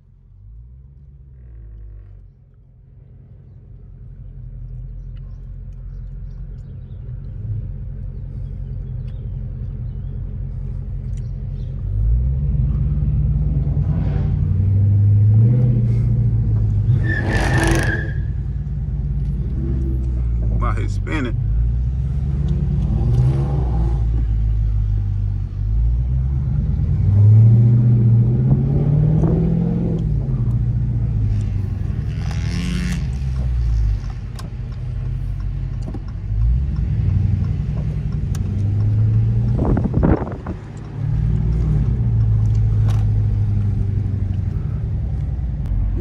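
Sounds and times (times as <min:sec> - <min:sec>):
car engine revving: 0:00.3 - 0:46.0.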